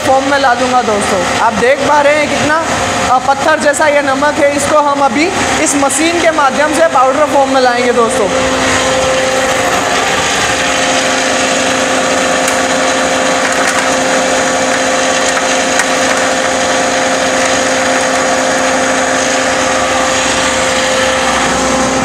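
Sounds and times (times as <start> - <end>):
salt grinding machine whirring: 0.0 - 22.0.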